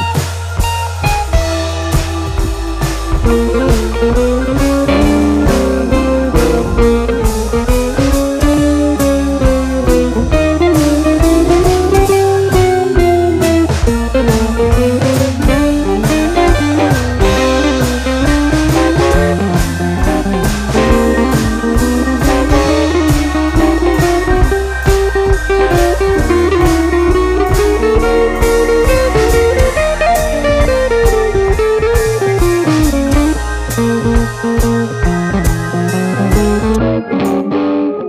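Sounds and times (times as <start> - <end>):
bass and drum beat: 0.0 - 37.6
blues guitar melody: 0.0 - 38.0.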